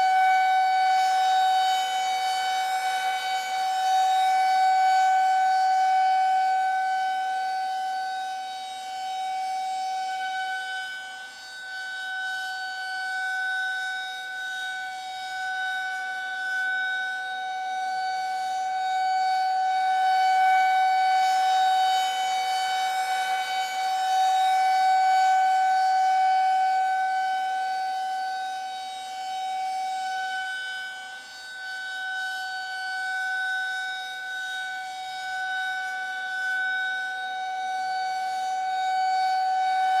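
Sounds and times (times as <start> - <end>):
siren steady tone: 0.0 - 40.0.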